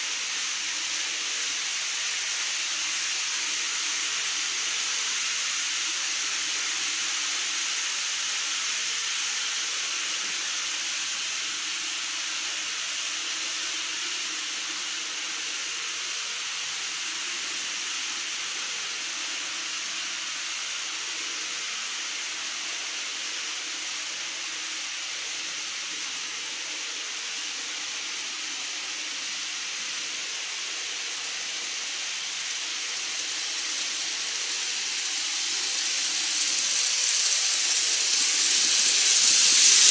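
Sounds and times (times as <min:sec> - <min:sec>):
model train rolling hiss: 0:00.0 - 0:39.9.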